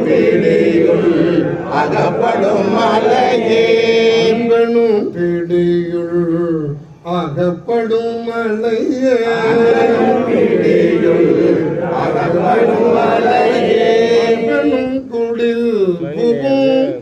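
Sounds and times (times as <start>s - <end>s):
men chanting a devotional song: 0.0s - 17.0s.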